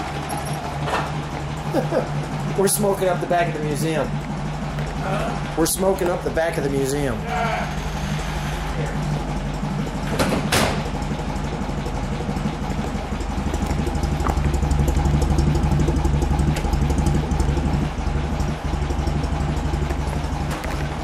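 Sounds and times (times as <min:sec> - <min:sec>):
car exhaust idling: 0:00.0 - 0:21.0.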